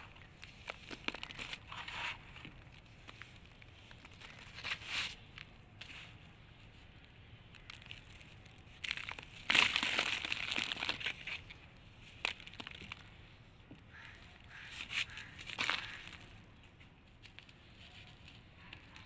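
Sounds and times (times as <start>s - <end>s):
sand crumbling onto cardboard: 0.0s - 13.3s, 13.9s - 16.4s.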